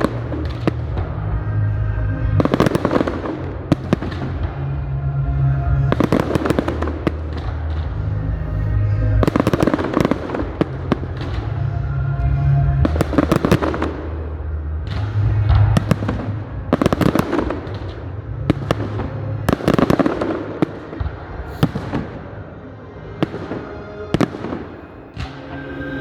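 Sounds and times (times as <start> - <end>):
fireworks bangs: 0.0 - 1.4, 2.2 - 26.0
fireworks crackling bursts: 0.0 - 25.6
music playing: 0.0 - 26.0.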